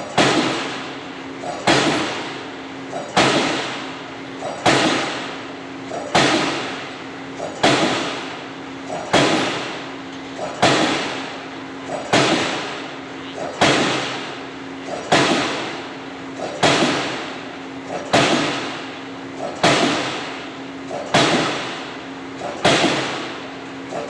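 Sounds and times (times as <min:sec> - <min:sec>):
pile hammer blows: 0:00.0 - 0:24.0
steady low hum: 0:00.0 - 0:24.0.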